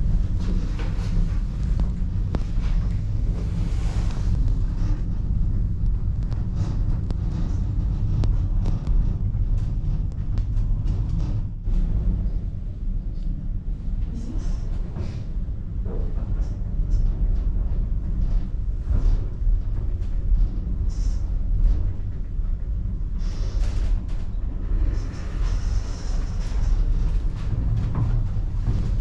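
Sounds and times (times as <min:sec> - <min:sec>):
funicular cabin rumbling: 0:00.0 - 0:29.0
light rattles and clicks: 0:00.0 - 0:29.0.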